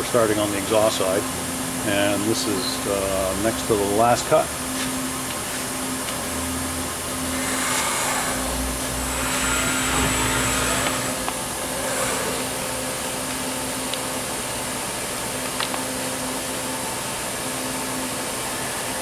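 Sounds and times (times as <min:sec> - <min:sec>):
milling machine hum: 0:00.0 - 0:19.0.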